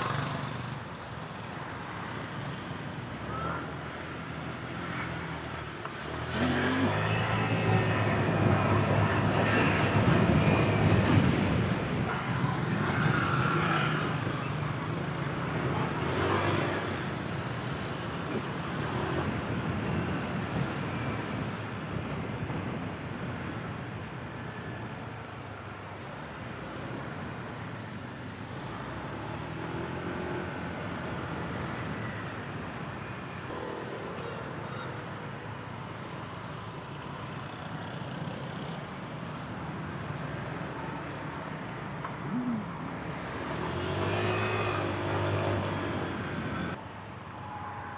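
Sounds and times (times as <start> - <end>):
city road traffic hiss: 0.0 - 47.9.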